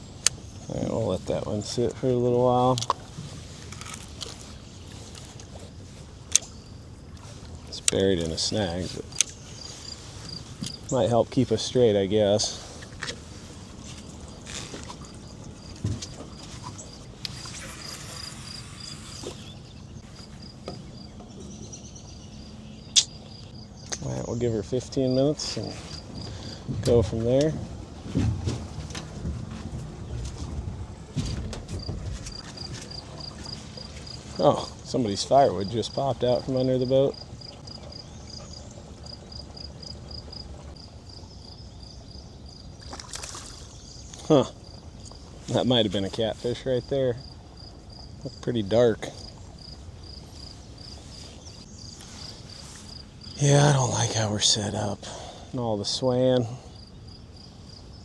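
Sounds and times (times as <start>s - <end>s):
cricket chirping: 3.5s - 26.8s, 31.7s - 58.0s.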